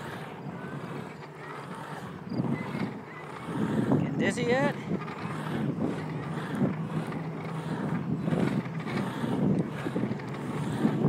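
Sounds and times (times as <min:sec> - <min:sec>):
board wheels rolling on concrete: 0:00.0 - 0:11.0
wind on microphone: 0:00.0 - 0:11.0.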